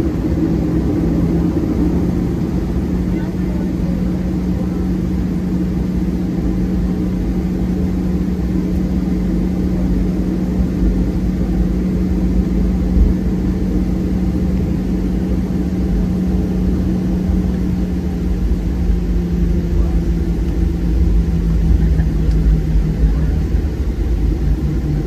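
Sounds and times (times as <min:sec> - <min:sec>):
jet engine cabin rumble: 0:00.0 - 0:25.0.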